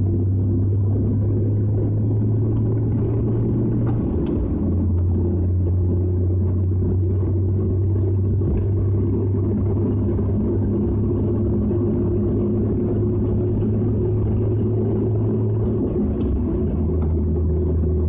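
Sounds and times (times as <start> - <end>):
car engine drone: 0.0 - 18.0.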